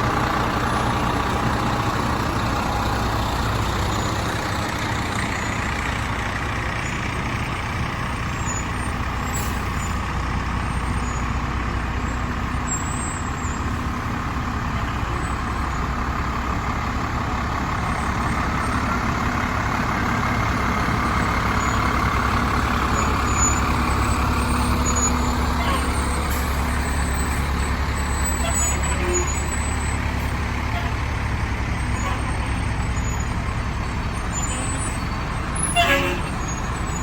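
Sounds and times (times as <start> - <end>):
diesel engine rumbling: 0.0 - 37.0.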